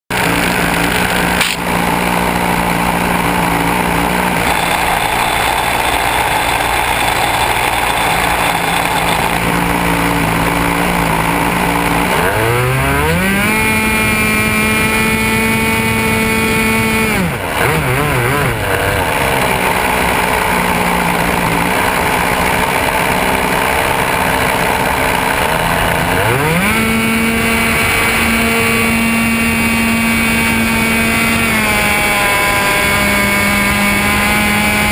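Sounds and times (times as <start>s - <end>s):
model airplane motor running: 0.1s - 34.9s.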